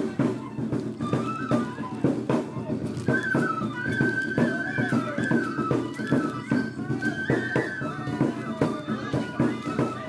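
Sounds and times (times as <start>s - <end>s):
bamboo flute melody: 0.0s - 10.0s
taiko drum beats: 0.0s - 10.0s.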